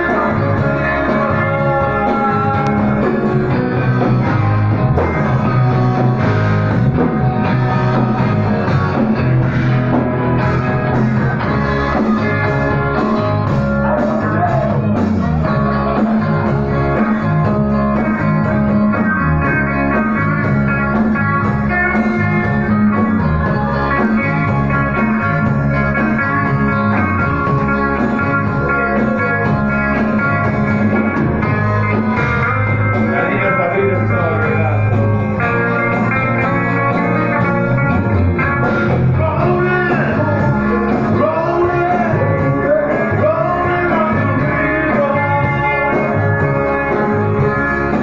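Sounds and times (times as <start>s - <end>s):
electric guitar: 0.0s - 48.0s
live rock band playing: 0.0s - 48.0s.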